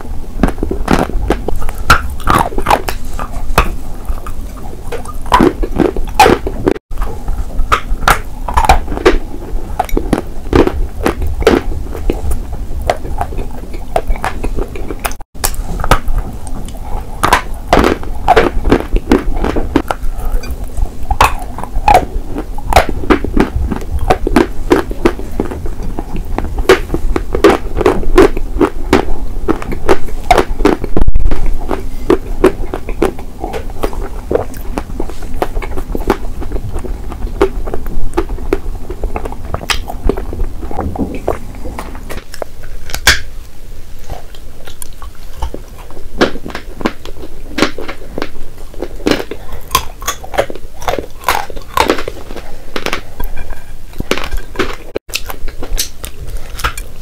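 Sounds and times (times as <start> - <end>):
crunching and chewing chalk: 0.0 - 57.0.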